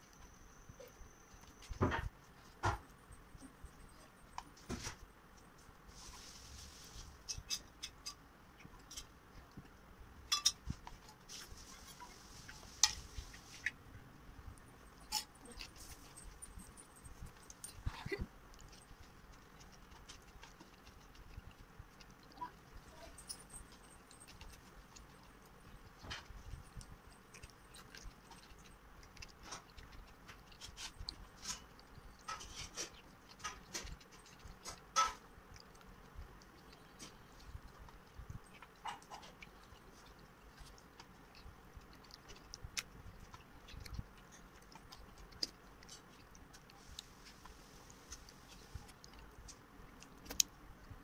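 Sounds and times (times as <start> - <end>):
chewing: 0.0 - 13.8, 14.5 - 51.0
wet sticky clicks of rice mixing: 0.0 - 51.0.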